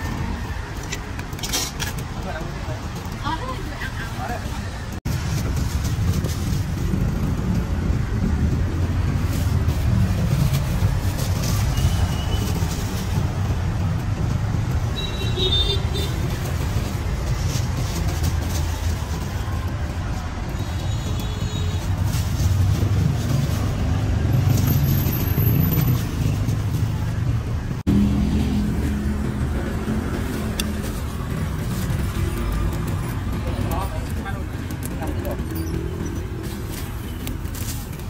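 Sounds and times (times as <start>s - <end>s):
motorbikes passing: 0.0s - 38.0s.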